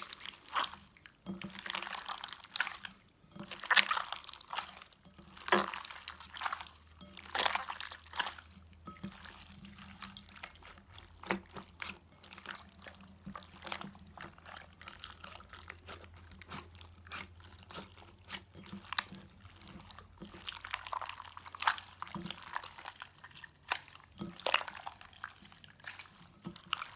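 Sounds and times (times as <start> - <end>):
slime squelching: 0.0 - 26.9.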